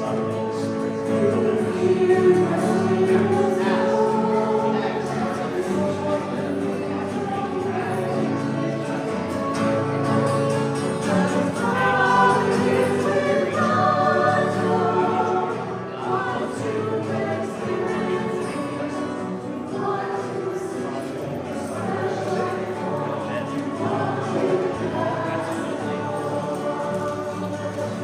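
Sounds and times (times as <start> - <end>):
congregation and choir singing a hymn: 0.0 - 28.0
hymn accompaniment: 0.0 - 28.0.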